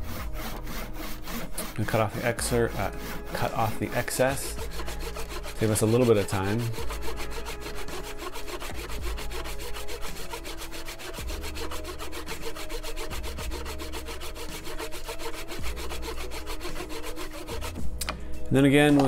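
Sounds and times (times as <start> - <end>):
handsaw sawing wood: 0.0 - 17.9.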